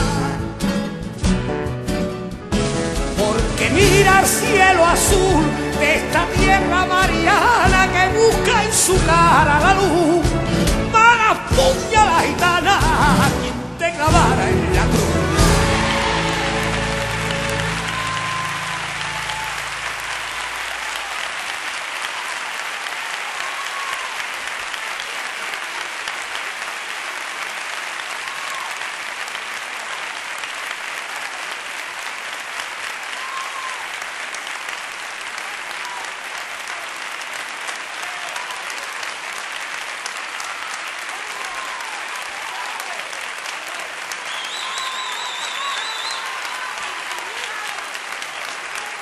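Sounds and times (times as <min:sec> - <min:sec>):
audience applause: 0:03.6 - 0:09.8, 0:14.2 - 0:49.0.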